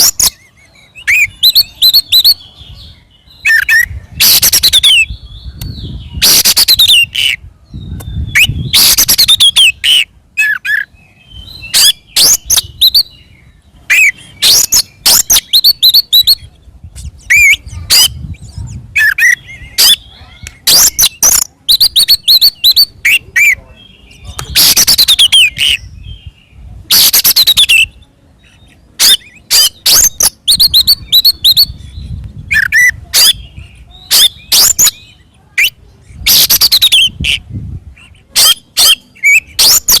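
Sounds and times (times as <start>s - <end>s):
bird singing rasping notes: 0.0s - 40.0s.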